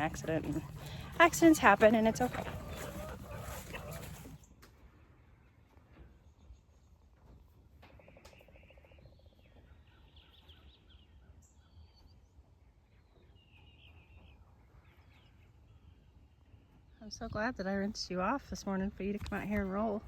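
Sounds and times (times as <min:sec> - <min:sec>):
small birds chirping and trilling: 0:00.0 - 0:17.6.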